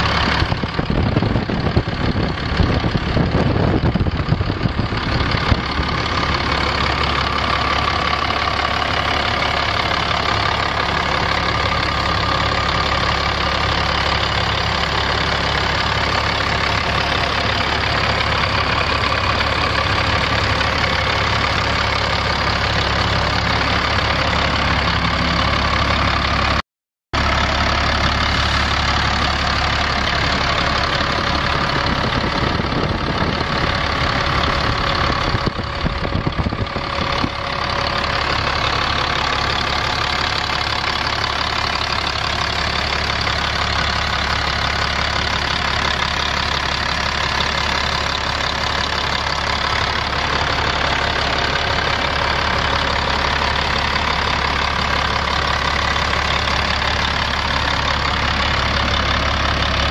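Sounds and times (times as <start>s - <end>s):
diesel truck engine idling: 0.0s - 26.6s, 27.2s - 59.9s.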